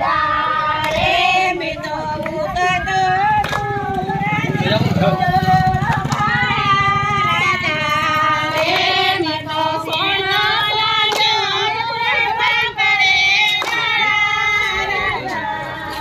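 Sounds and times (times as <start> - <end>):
women singing devotional song: 0.0 - 16.0
hand claps keeping time: 0.8 - 16.0.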